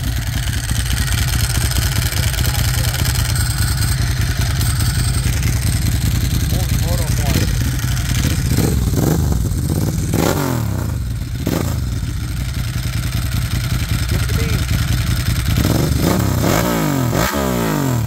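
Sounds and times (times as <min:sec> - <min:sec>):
motorcycle engine throttle blips: 0:00.0 - 0:18.0.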